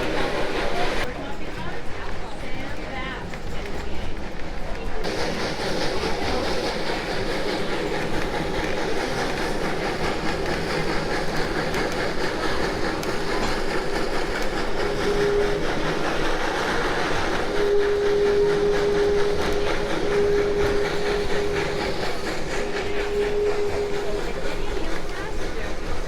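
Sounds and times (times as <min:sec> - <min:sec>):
train rumble: 0:00.0 - 0:26.0
wheels clickety-clack: 0:00.0 - 0:26.0.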